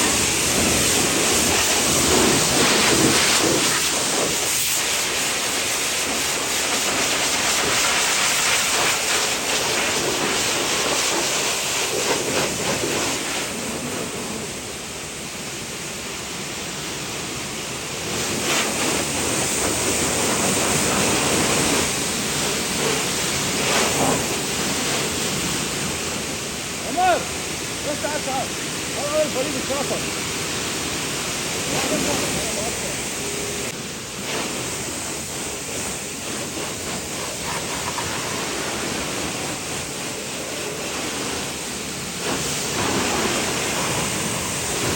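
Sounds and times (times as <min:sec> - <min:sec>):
water spraying: 0:00.0 - 0:44.9.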